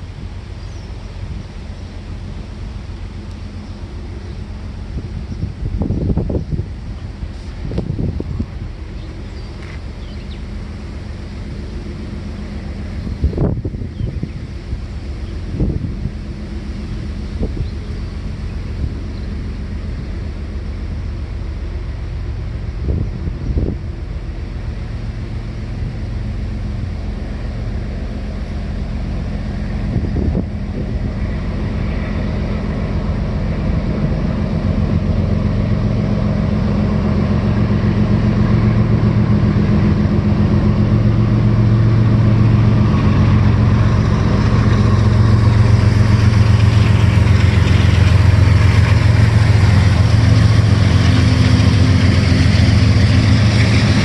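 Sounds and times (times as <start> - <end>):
diesel locomotive engines droning: 0.0 - 54.0.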